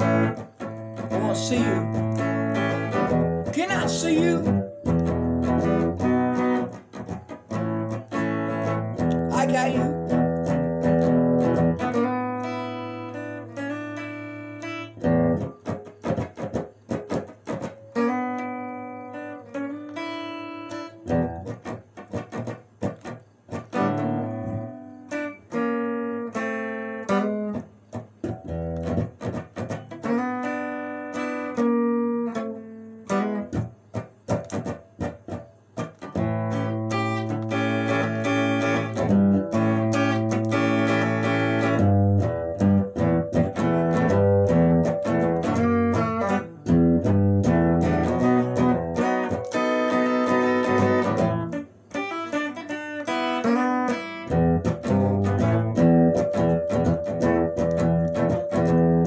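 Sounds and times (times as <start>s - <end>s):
electric guitar boogie: 0.0s - 59.0s.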